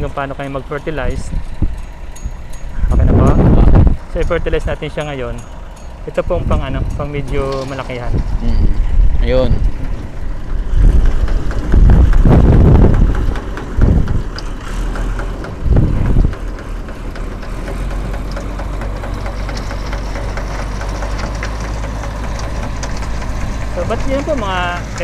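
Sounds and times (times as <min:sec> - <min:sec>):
tractor engine rumbling: 0:00.0 - 0:25.0.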